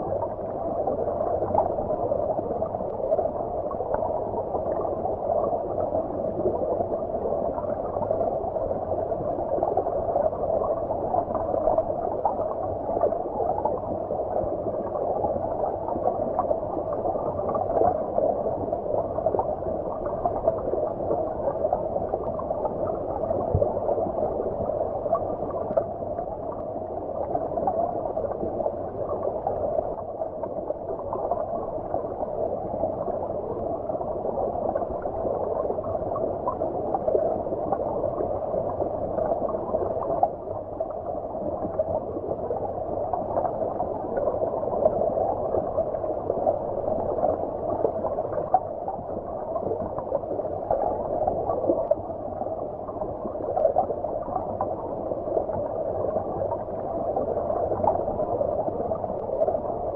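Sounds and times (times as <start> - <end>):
stream water heard underwater: 0.0 - 59.9.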